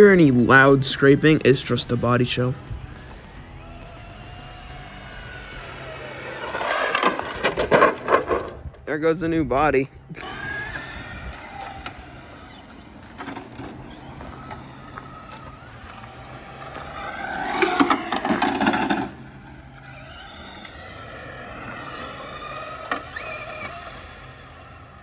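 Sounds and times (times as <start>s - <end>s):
rc truck electric motor whining: 0.0s - 8.8s, 10.1s - 25.0s
tyre noise: 0.0s - 8.9s, 10.1s - 25.0s.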